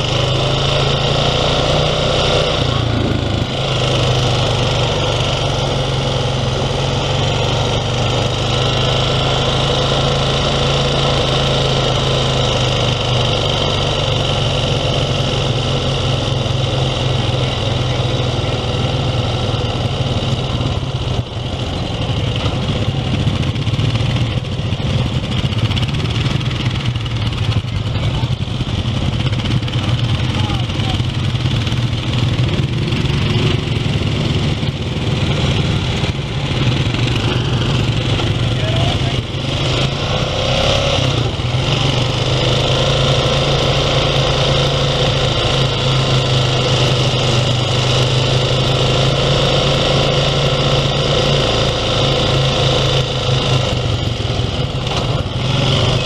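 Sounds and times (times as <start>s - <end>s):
quad bike engine droning: 0.0s - 56.0s.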